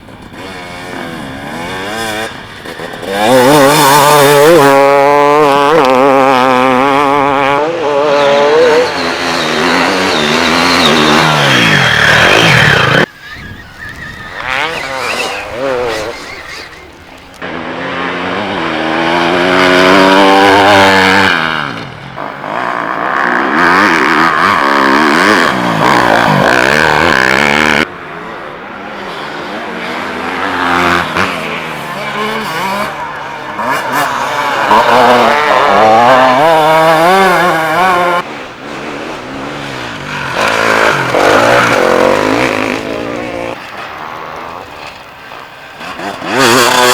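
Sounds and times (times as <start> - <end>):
dirt bike engines revving: 0.0 - 46.9.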